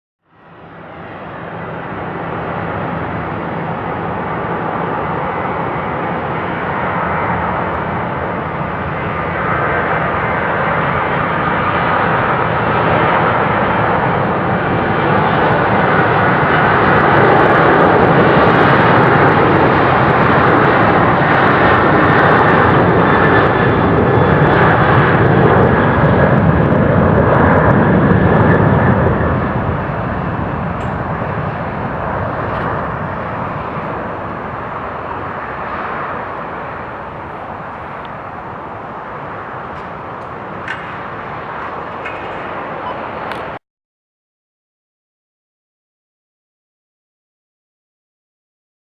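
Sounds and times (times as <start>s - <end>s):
jet engine roar: 0.3s - 43.6s.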